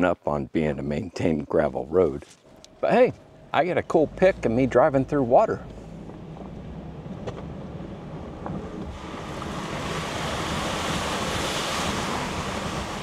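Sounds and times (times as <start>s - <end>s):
engine running low: 2.4s - 13.0s
water splashing under tyres: 2.4s - 13.0s.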